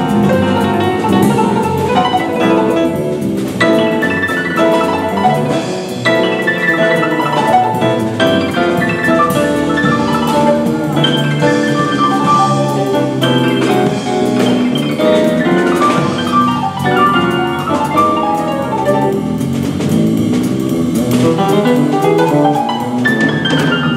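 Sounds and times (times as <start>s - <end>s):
jazz piano: 0.0s - 23.9s.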